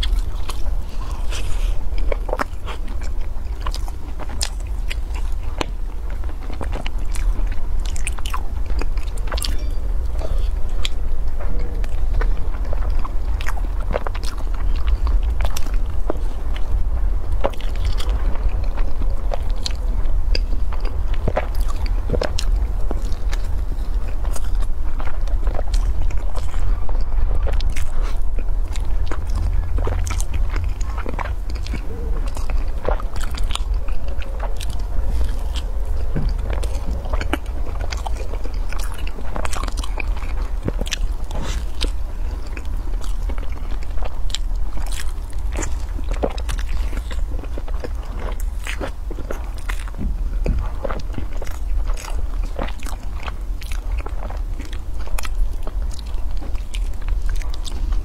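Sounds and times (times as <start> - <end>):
person chewing food: 0.0 - 58.0
steady low hum: 0.0 - 58.0.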